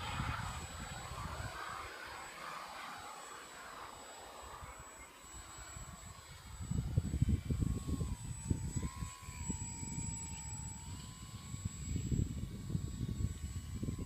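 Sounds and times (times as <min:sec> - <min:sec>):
model plane motor buzz: 0:00.0 - 0:14.0.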